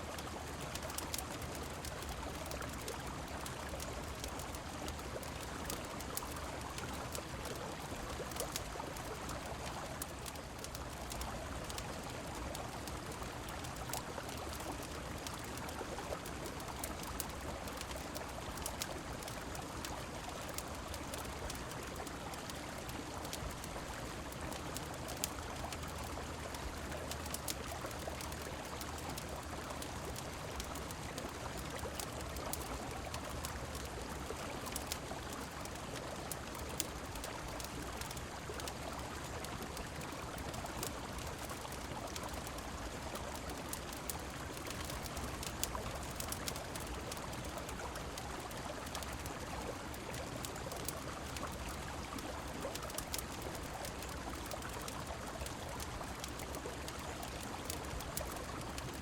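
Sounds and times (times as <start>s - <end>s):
rain: 0.0s - 59.0s
wood fire crackling: 0.0s - 59.0s.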